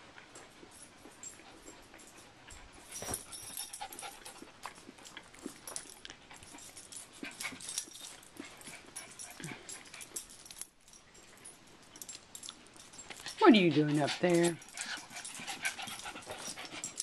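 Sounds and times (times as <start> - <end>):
dog panting: 0.0 - 17.0.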